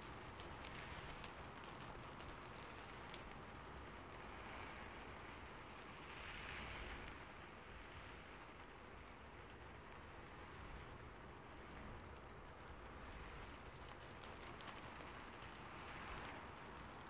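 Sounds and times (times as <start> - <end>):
rain pattering on roof: 0.0 - 17.0.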